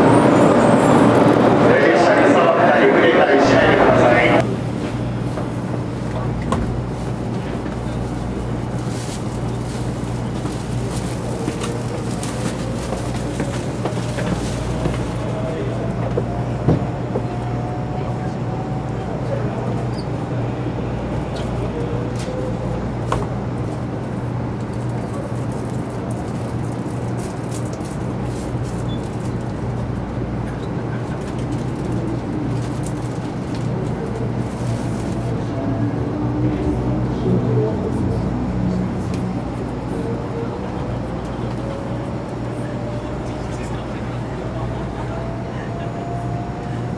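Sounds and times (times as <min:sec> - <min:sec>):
murmur of voices: 0:00.0 - 0:46.9
train interior rumble and hum: 0:00.0 - 0:46.9.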